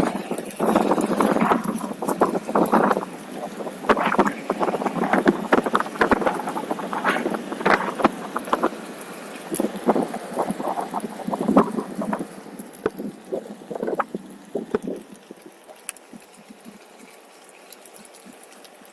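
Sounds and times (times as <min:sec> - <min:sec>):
tyre rolling on trail: 0:00.0 - 0:15.3.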